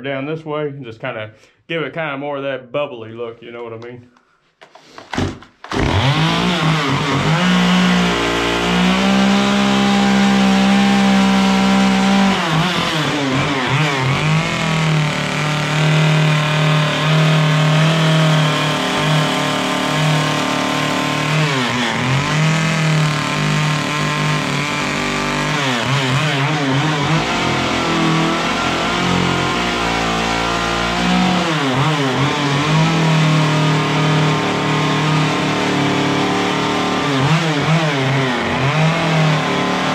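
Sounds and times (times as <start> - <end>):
chainsaw cutting wood: 4.6 - 39.9.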